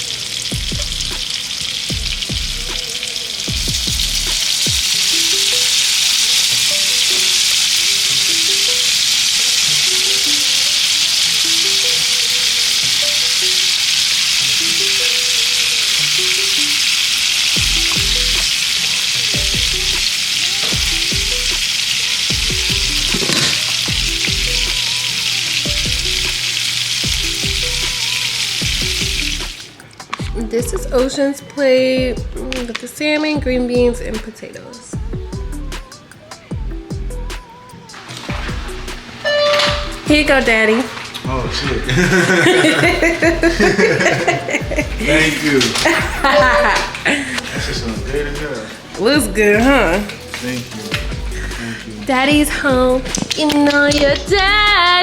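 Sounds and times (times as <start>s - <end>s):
food sizzling in a frying pan: 0.0s - 33.4s, 37.4s - 55.0s.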